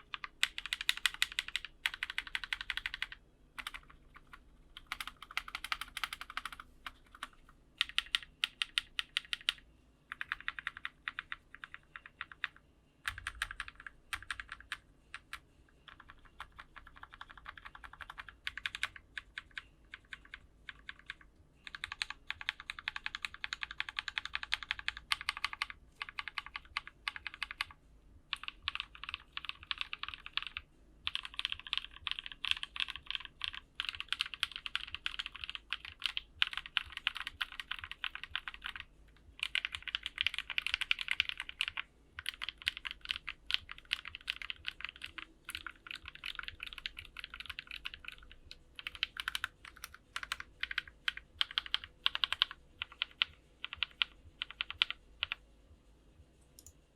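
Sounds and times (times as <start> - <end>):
fast typing on mechanical keyboard: 0.0 - 55.4.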